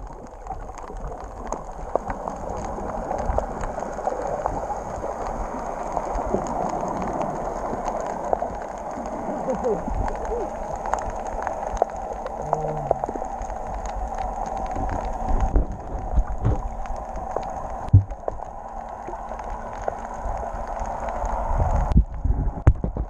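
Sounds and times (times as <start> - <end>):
underwater water hiss: 1.4 - 22.6.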